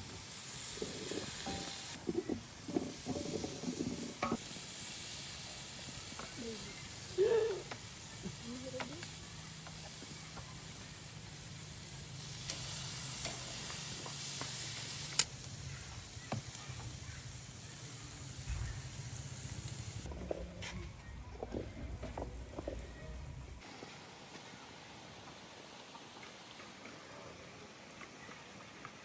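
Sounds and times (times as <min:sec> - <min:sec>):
food sizzling in a pot: 0:00.0 - 0:20.1, 0:23.6 - 0:26.9.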